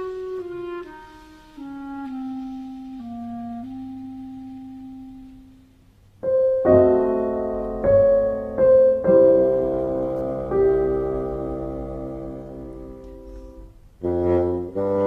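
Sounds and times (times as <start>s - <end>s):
held woodwind note: 0.0s - 15.0s
piano chords: 0.0s - 15.0s.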